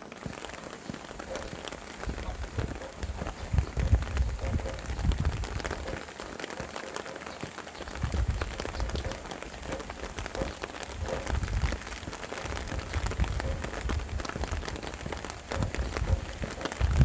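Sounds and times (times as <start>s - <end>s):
rain pattering: 0.0s - 17.0s
wind rumbling in gusts: 1.2s - 6.1s, 7.8s - 17.0s.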